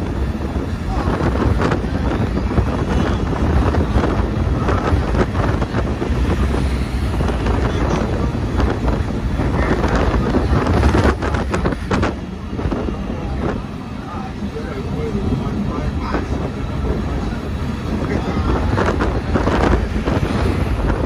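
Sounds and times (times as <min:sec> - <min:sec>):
car road and tyre noise: 0:00.0 - 0:21.0
wind buffeting microphone: 0:00.0 - 0:21.0.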